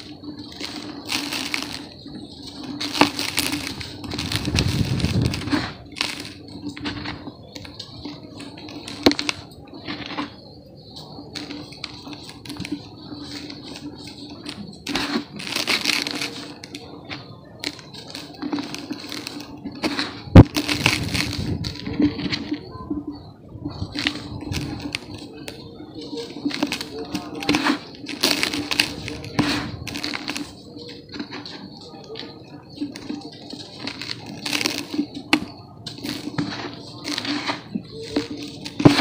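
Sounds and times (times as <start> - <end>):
dirt clumps crunching by hand: 0.0 - 10.4, 11.2 - 22.7, 23.7 - 39.0
grains pattering into plastic tub: 0.0 - 10.4, 11.3 - 22.7, 23.8 - 39.0.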